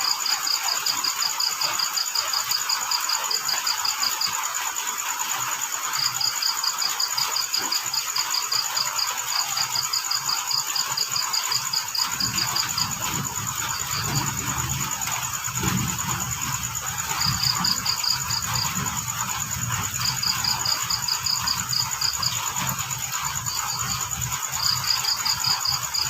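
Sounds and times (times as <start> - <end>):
cricket trilling: 0.0 - 26.0
high-pitched insect trilling: 0.0 - 26.0
rain hiss: 0.0 - 26.0.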